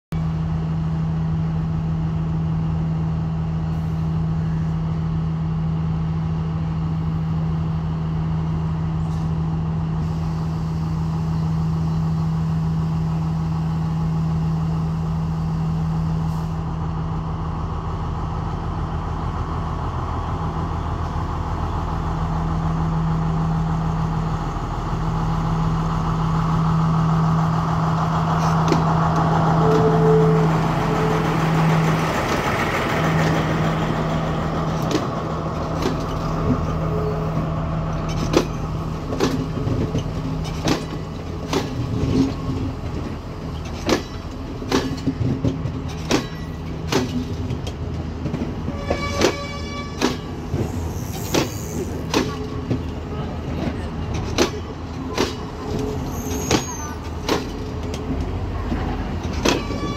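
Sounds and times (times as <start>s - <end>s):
train diesel engine droning: 0.2s - 59.9s.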